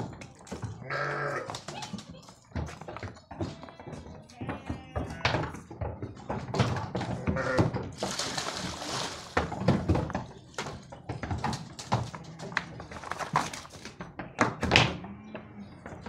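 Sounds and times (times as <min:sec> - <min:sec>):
hooves clattering on wooden floor: 0:00.0 - 0:16.0.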